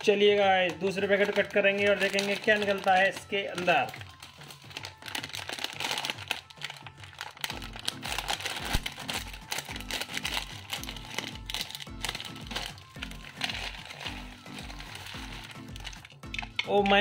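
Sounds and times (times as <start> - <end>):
plastic snack packet crinkling: 0.0 - 17.0
scissors cutting packet: 0.0 - 17.0.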